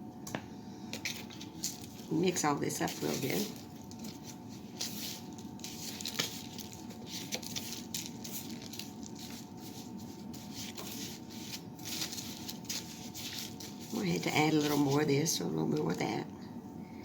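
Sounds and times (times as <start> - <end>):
thick mix squishing in bowl: 0.9 - 16.1.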